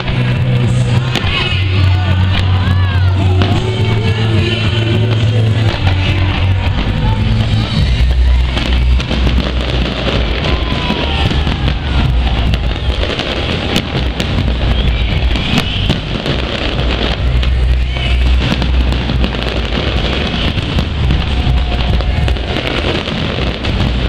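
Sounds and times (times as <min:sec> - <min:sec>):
fireworks bangs and crackles: 0:00.0 - 0:24.0
loud music with heavy bass: 0:00.0 - 0:24.0.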